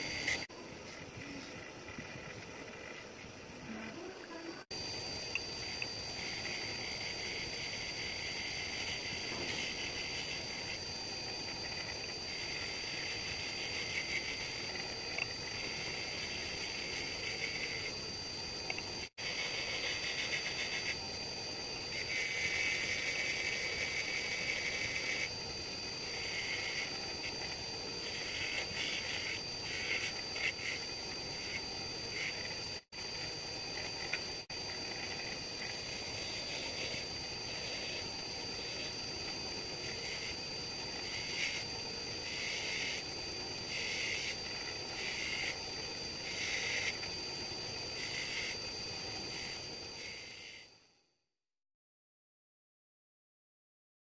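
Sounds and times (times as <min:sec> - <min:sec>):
steel grinding hiss: 0:00.0 - 0:50.6
bench grinder whine: 0:00.0 - 0:50.7.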